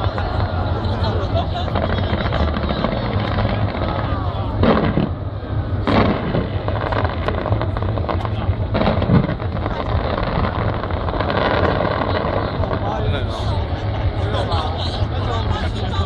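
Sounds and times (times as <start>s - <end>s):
fireworks booms: 0.0s - 14.2s
fireworks crackling: 0.0s - 16.0s.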